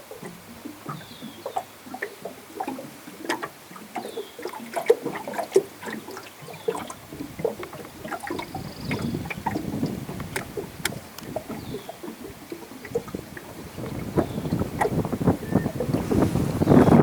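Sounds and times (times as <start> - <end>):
water lapping and splashing: 0.0 - 17.0.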